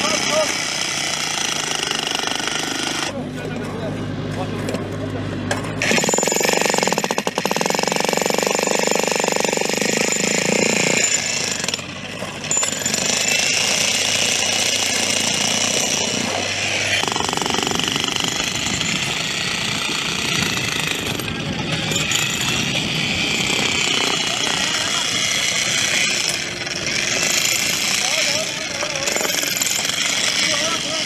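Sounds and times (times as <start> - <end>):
jackhammer hammering on stone: 0.0 - 3.1, 5.8 - 31.0.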